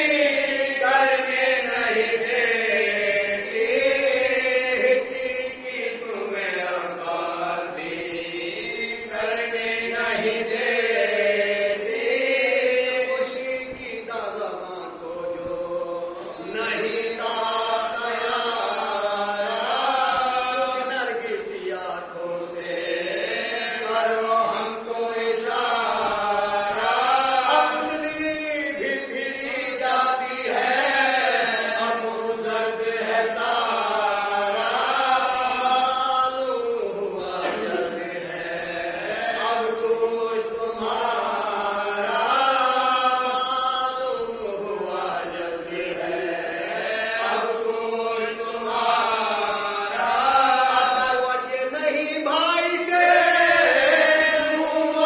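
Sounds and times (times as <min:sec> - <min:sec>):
men chanting in unison: 0:00.0 - 0:55.0.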